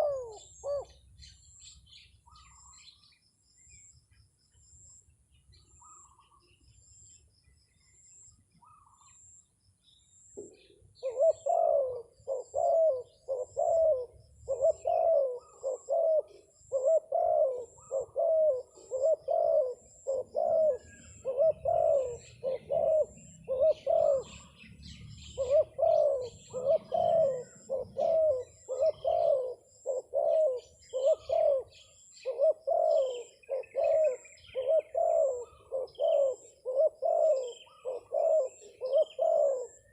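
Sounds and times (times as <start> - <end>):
dove cooing: 0.0 - 3.0, 8.6 - 9.2, 10.4 - 39.9
small birds chirping: 0.0 - 39.9.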